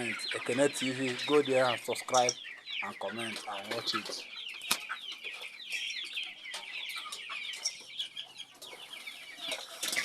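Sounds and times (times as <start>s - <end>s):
chickens peeping: 0.0s - 10.0s.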